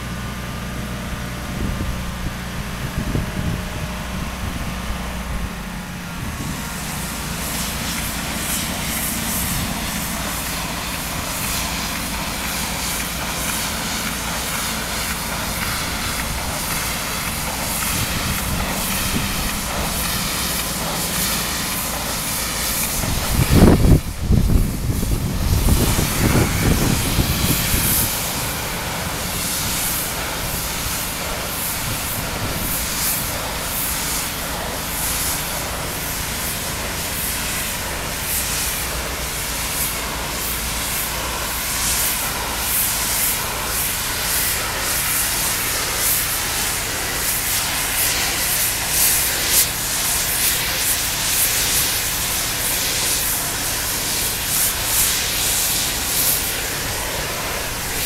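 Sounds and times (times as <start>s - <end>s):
pressure washer spraying: 0.0s - 58.0s.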